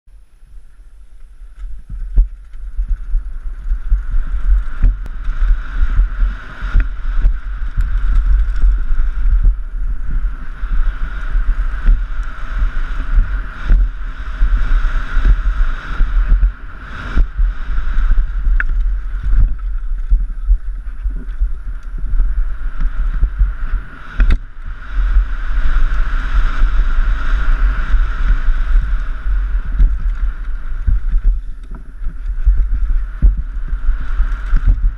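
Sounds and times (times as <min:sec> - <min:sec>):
wind buffeting on microphone: 0:00.2 - 0:34.9
bike knocking and rattling: 0:01.0 - 0:34.9
tyres on dirt and gravel: 0:01.2 - 0:34.7.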